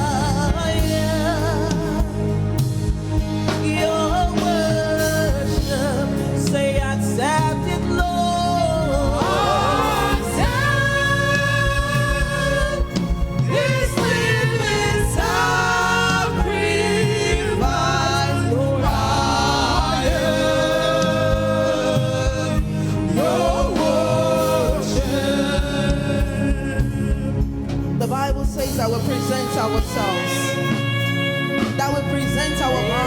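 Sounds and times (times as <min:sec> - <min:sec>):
singers holding long notes: 0:00.0 - 0:28.0, 0:28.9 - 0:33.0
instrumental backing: 0:00.0 - 0:33.0.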